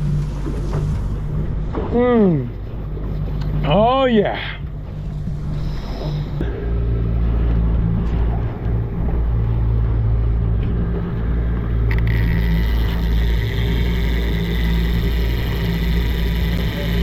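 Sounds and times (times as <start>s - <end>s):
boat engine humming: 0.0s - 17.0s
thin whine: 0.0s - 17.0s.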